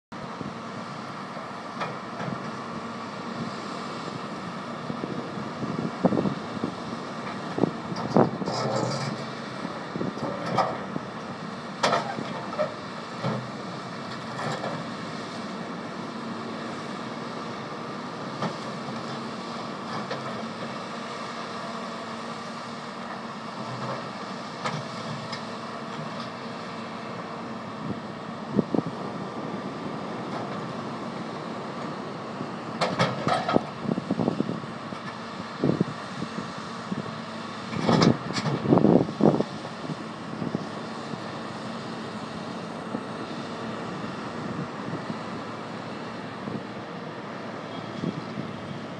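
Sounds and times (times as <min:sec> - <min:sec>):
excavator diesel engine running: 0:00.1 - 0:48.9.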